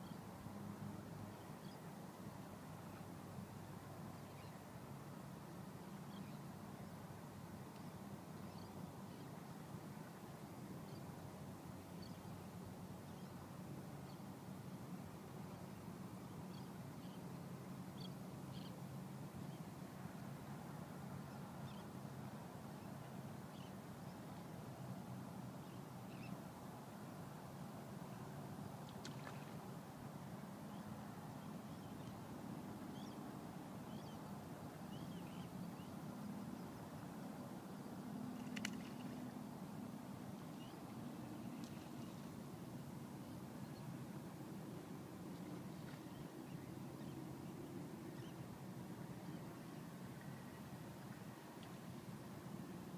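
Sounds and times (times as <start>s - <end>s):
outdoor background noise: 0.0s - 52.9s.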